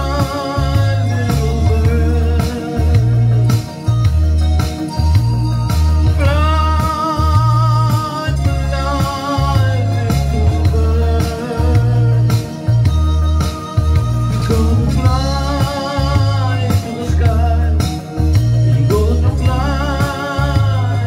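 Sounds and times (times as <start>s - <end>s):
man singing with vibrato: 0.0s - 4.0s, 6.0s - 21.0s
backing track with pulsing bass: 0.0s - 21.0s.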